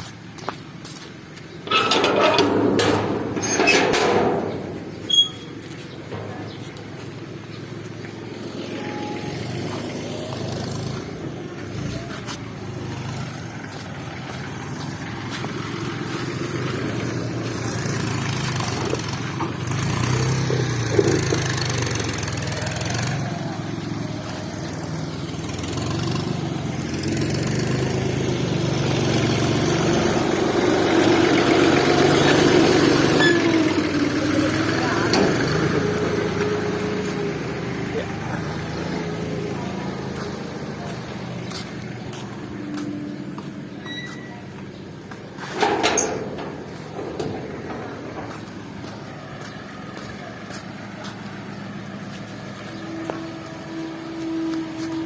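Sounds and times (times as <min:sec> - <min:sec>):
heavy vehicle engine: 0:00.0 - 0:55.0.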